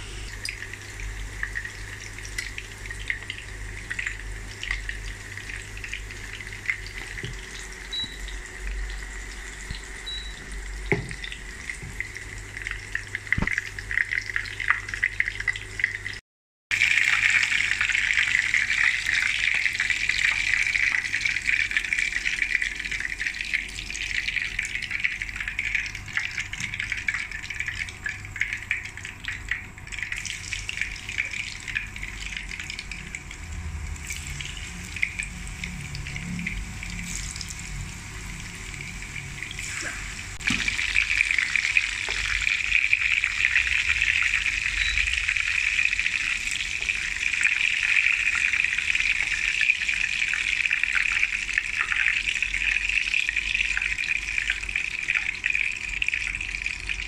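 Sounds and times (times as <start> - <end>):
kebabs sizzling in oil: 0.0 - 57.0.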